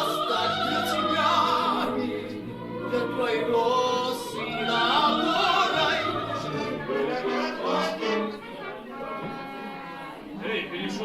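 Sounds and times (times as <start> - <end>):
operatic singing: 0.0 - 11.0.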